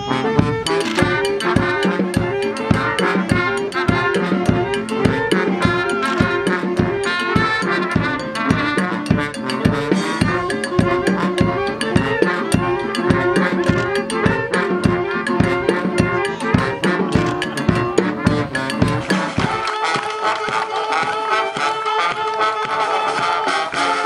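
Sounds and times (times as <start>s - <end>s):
brass band with drums: 0.0s - 24.0s.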